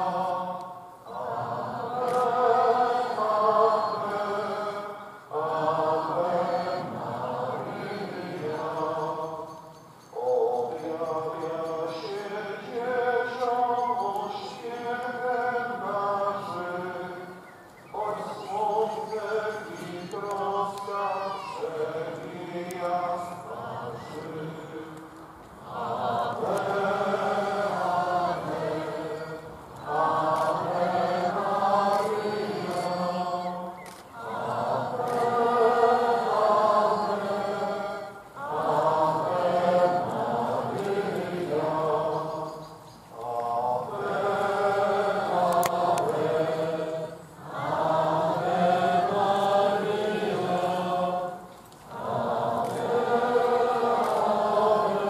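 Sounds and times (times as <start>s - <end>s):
crowd singing a hymn: 0.0s - 55.0s.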